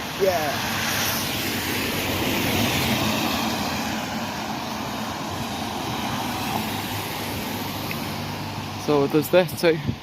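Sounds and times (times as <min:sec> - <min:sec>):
passing vehicle engine: 0:00.0 - 0:09.6.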